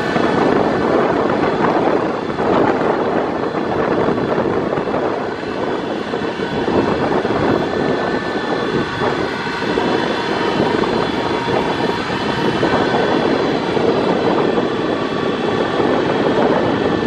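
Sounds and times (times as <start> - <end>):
faint high whine: 0.0 - 17.0
train wheels rumbling on track: 0.0 - 17.0.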